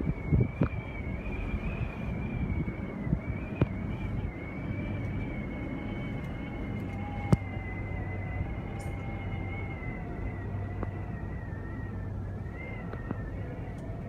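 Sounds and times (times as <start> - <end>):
cable car hum and whine: 0.0 - 14.0.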